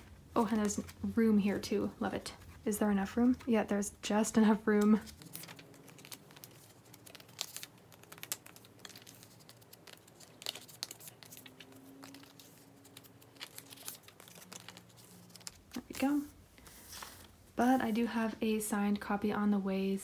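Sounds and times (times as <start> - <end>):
plastic sleeves crinkling: 0.0 - 18.0.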